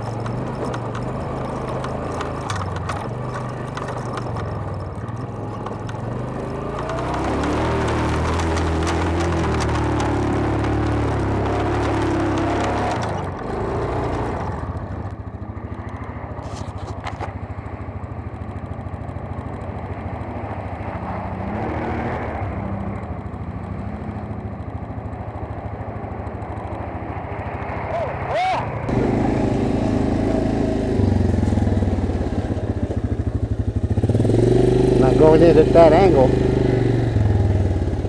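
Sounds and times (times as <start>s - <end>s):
second atv engine revving: 0.0s - 17.4s, 18.3s - 38.0s
atv engine idling: 0.0s - 21.2s, 22.6s - 38.0s.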